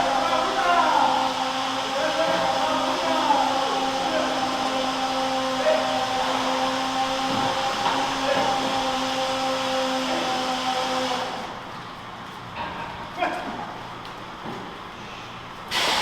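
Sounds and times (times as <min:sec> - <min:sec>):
milking machinery humming: 0:00.0 - 0:16.0.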